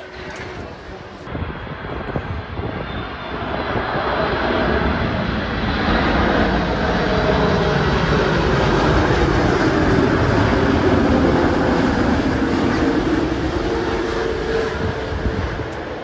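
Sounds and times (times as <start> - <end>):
jet engines rumbling overhead: 0.0 - 16.0.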